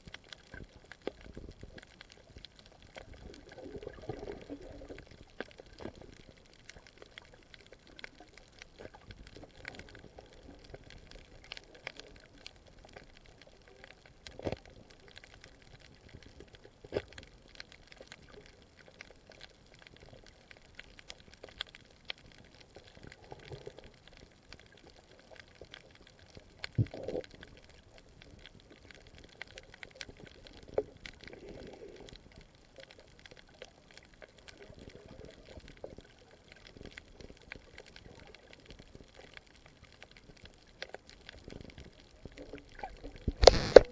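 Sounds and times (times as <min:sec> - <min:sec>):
small sharp clicks and crackles: 0:00.0 - 0:43.9.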